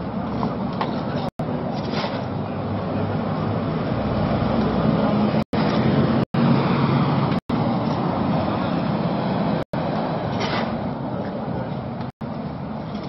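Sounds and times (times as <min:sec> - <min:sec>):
loud outdoor engine rumble: 0:00.0 - 0:13.0.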